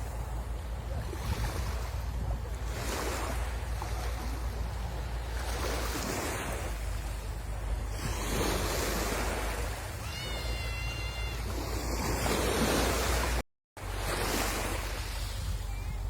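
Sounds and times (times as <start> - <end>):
sea waves washing onto shore: 0.0 - 16.0
wind rumbling on microphone: 0.0 - 16.0.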